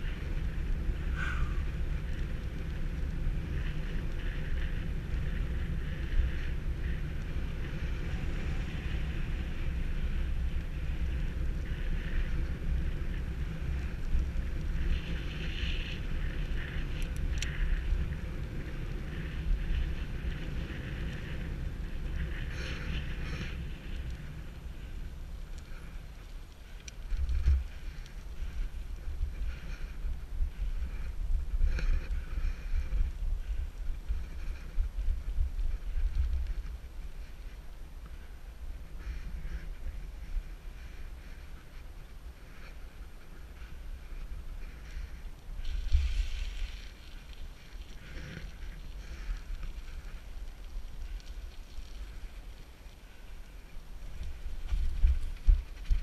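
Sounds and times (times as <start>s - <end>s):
bike tyres hissing on pavement: 0.0s - 56.0s
wind buffeting microphone: 0.0s - 56.0s.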